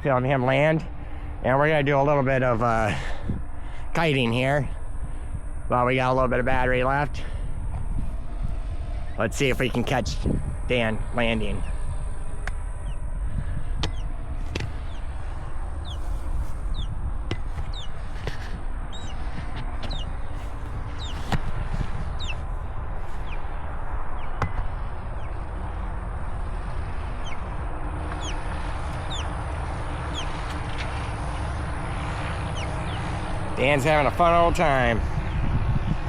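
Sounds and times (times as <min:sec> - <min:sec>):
wind on microphone: 0:02.6 - 0:36.0
birds chirping: 0:02.7 - 0:35.6.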